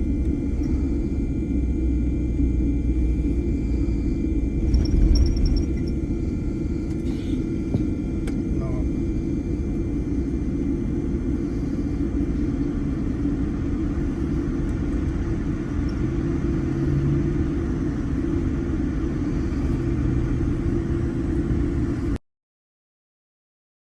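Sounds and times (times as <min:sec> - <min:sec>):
airliner cabin rumble: 0:00.0 - 0:22.2.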